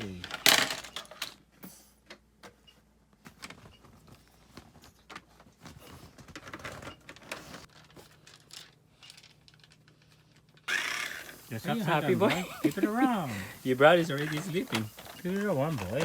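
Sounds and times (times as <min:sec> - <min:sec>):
plastic toys clicking and rustling: 0:00.0 - 0:02.6, 0:03.2 - 0:16.0.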